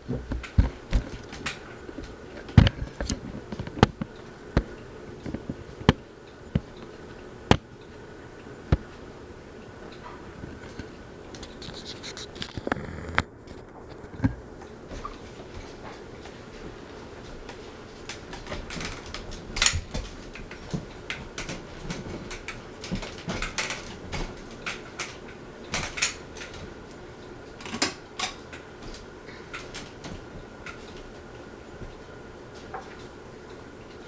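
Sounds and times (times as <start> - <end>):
ceiling fan humming: 0.0 - 34.0.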